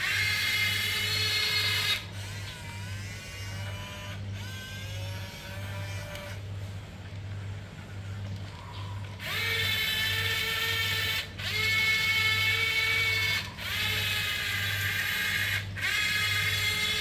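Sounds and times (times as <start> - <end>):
toy gear motors whining: 0.0 - 6.4, 9.1 - 17.0.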